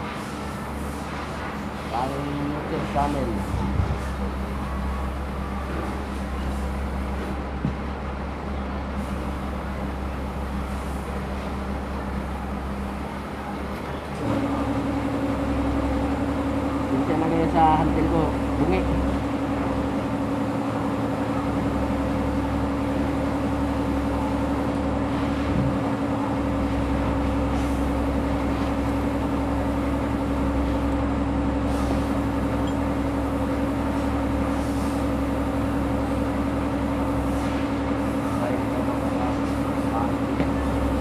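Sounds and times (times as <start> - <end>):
steady mechanical hum: 0.0 - 41.0.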